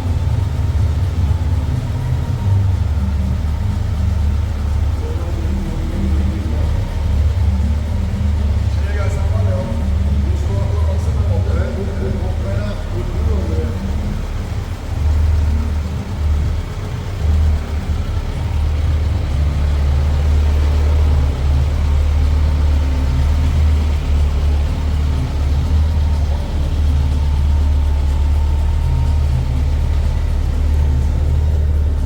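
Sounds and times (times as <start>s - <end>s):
vehicle engine deep rumble: 0.0s - 32.0s.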